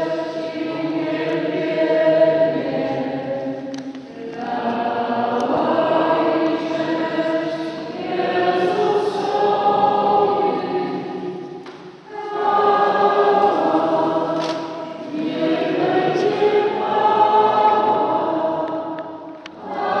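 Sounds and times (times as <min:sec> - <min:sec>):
group of people singing: 0:00.0 - 0:20.0.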